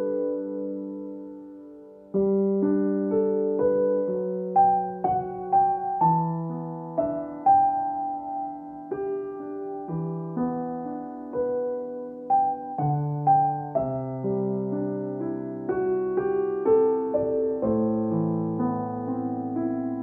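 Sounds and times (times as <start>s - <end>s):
calm piano music: 0.0s - 20.0s.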